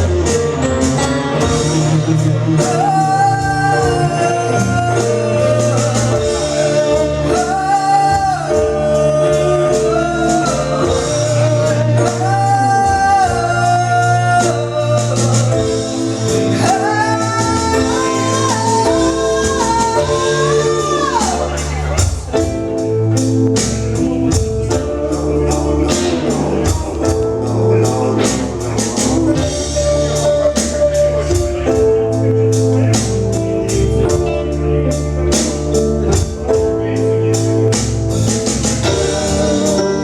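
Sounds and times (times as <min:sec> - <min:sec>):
band playing with bass: 0:00.0 - 0:40.0
person singing long notes: 0:00.0 - 0:40.0.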